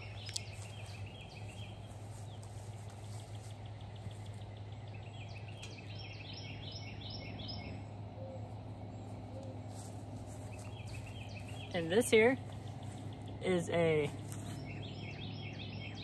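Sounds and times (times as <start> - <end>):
songbirds calling: 0.0 - 16.0
steady low hum: 0.0 - 16.0.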